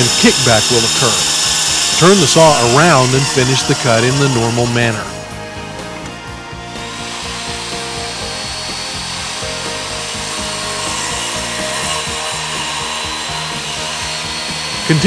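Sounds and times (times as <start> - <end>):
circular saw cutting plywood: 0.0 - 15.0.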